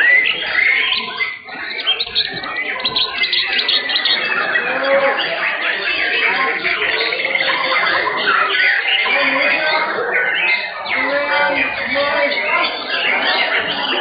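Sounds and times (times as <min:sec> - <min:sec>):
birds singing whistles and trills: 0:00.0 - 0:14.0.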